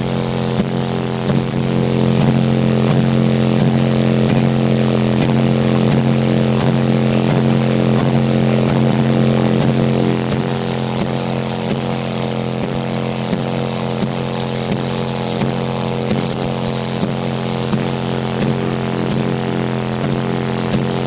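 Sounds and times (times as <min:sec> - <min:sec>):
distorted subwoofer bass note: 0:00.0 - 0:21.0.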